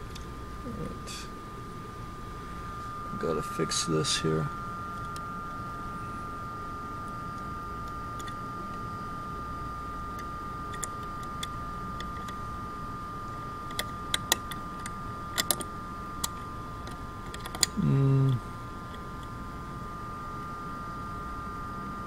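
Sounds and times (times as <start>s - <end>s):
steady high hum: 0.0s - 22.0s.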